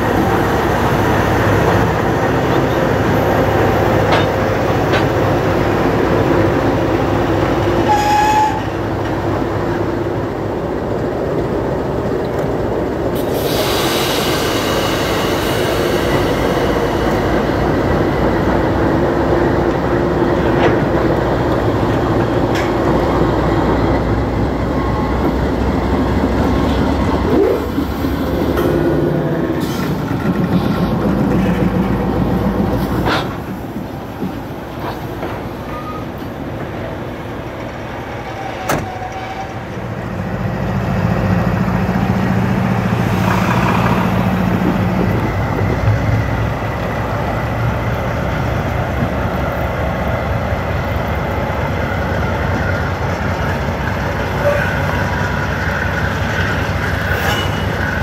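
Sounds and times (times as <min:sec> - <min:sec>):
train rolling past: 0:00.0 - 0:58.0.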